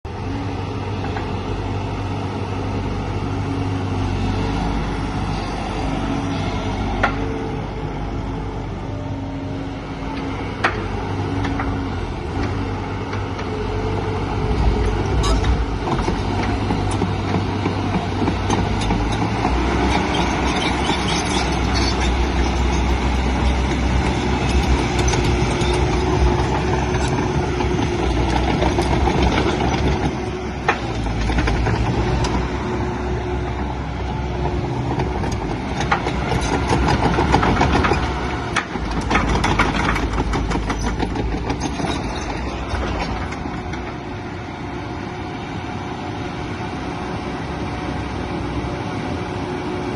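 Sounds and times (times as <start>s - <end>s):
excavator diesel engine running: 0.1s - 49.9s.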